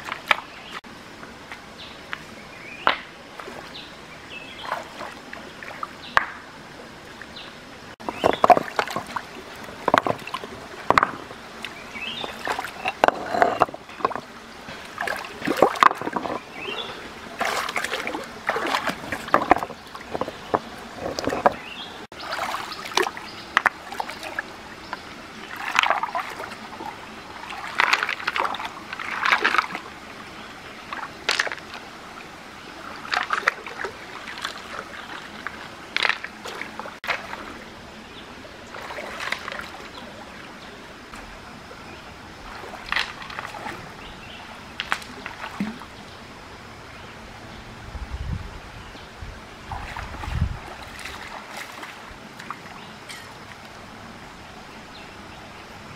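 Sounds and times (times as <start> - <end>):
stream trickling: 0.0 - 55.9.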